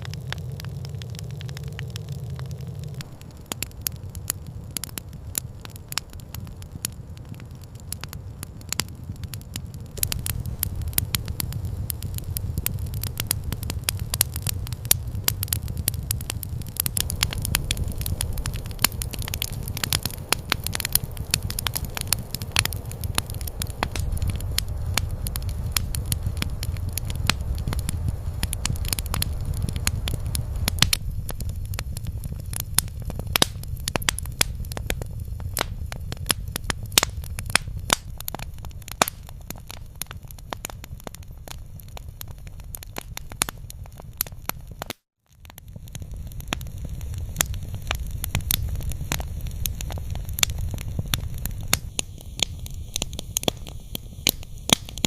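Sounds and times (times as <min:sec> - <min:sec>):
low rumble: 0:00.0 - 0:44.2
campfire crackling and popping: 0:00.0 - 0:55.0.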